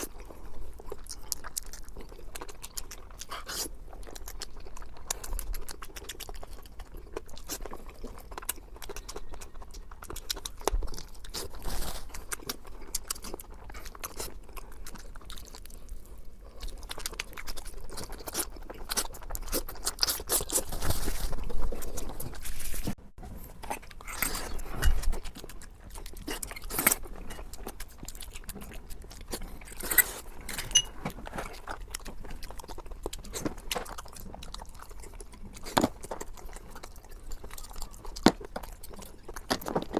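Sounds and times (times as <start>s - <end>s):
crunchy crackles: 0.0s - 39.9s
person chewing with wet smacking: 0.0s - 39.9s.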